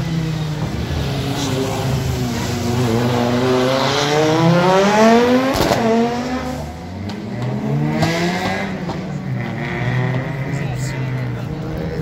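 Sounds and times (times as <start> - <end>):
rally car engine revving past: 0.6 - 11.4.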